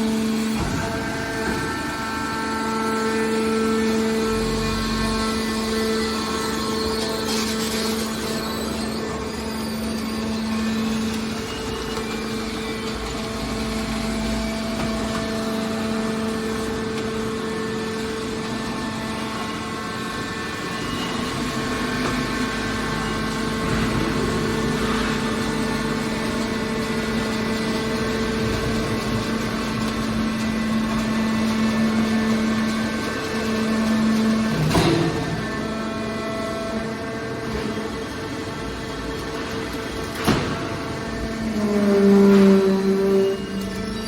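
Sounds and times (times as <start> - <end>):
machine power unit humming: 0.0 - 44.0.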